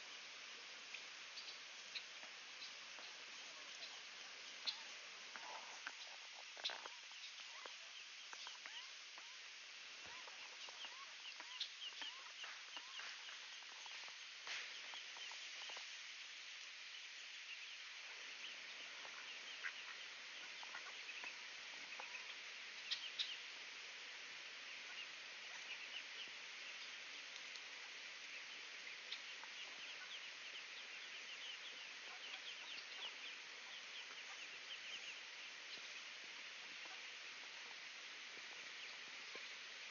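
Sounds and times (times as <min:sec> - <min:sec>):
outdoor hiss: 0:00.0 - 0:39.9
ducks calling softly: 0:00.9 - 0:39.9
ducklings peeping: 0:01.0 - 0:16.0, 0:16.6 - 0:23.6, 0:24.5 - 0:39.8.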